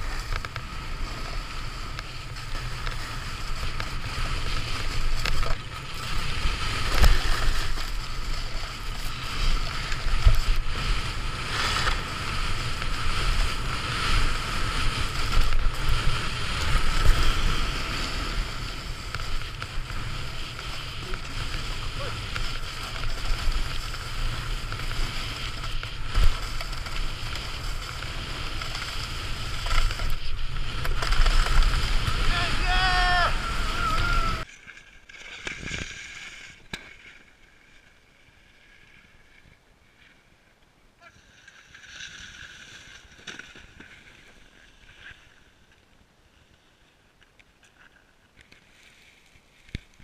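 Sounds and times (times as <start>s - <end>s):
snowboard scraping over snow: 0.0s - 40.3s, 41.1s - 46.8s.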